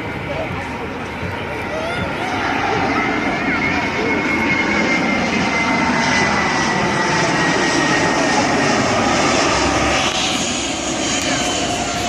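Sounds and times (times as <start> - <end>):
jet engines landing: 0.0 - 12.0.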